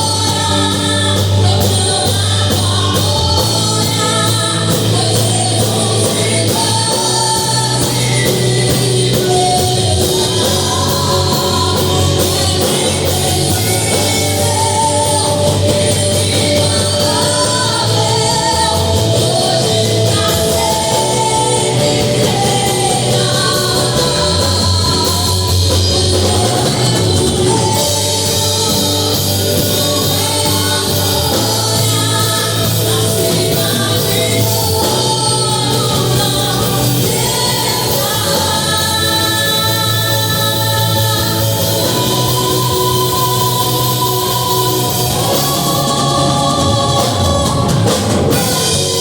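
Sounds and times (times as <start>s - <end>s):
band accompaniment with bass line: 0.0s - 49.0s
person singing: 0.0s - 49.0s.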